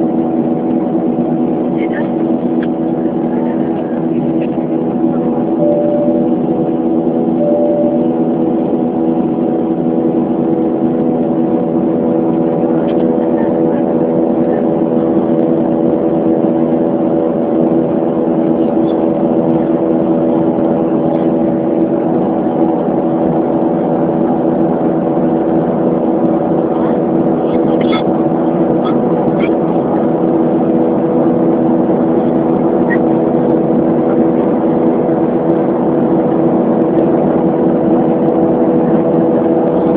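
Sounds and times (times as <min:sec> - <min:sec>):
jet engines droning in cabin: 0:00.0 - 0:39.9.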